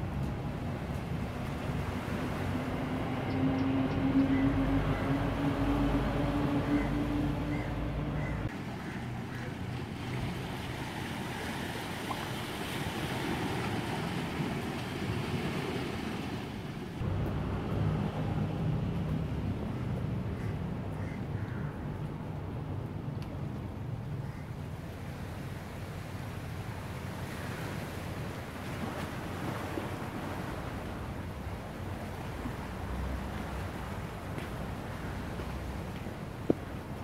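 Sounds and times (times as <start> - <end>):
water by the shore: 0.0 - 37.0
wind: 0.0 - 37.0.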